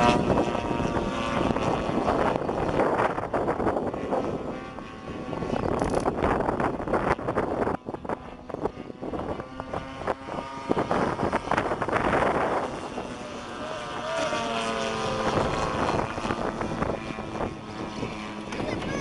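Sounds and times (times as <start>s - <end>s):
model airplane motor: 0.0s - 19.0s
wind buffeting microphone: 0.0s - 19.0s.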